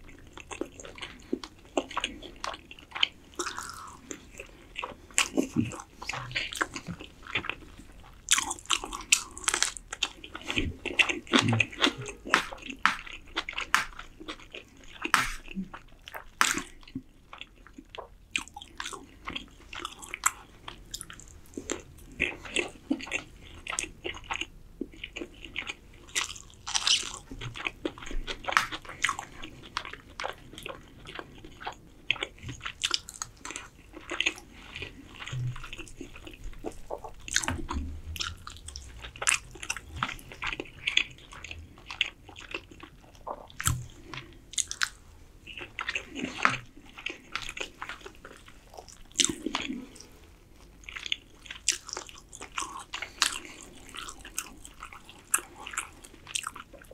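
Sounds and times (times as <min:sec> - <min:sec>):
man chewing with moist clicks: 0:00.0 - 0:56.9.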